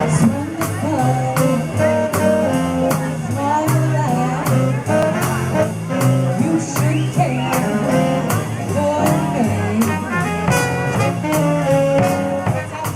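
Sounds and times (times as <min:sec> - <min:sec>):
up-tempo swing jazz: 0:00.0 - 0:12.9.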